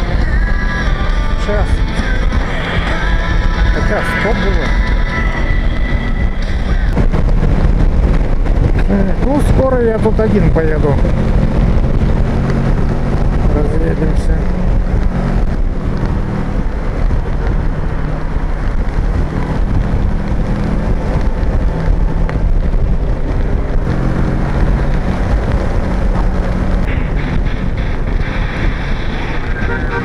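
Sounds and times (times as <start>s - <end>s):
motorcycle engine drone: 0.0s - 30.0s
wind rushing over microphone: 0.0s - 30.0s.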